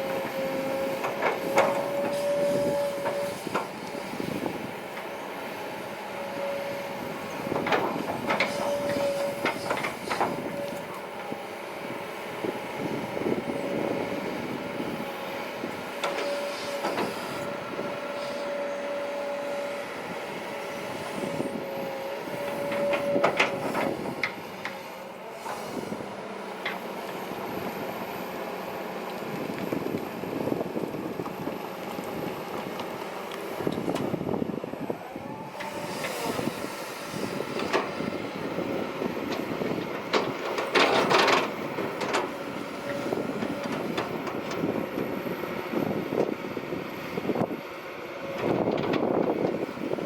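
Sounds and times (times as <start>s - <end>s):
excavator engine and hydraulics: 0.0s - 50.0s
hydraulic whine: 0.0s - 50.0s.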